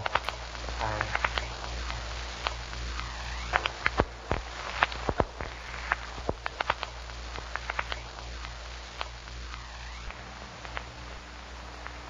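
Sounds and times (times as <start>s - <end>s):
faint whine: 0.0s - 12.0s.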